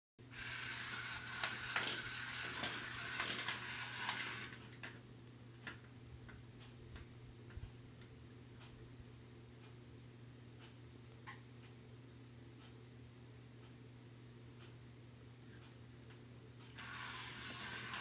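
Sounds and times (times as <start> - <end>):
steady low hum: 0.2 - 18.0.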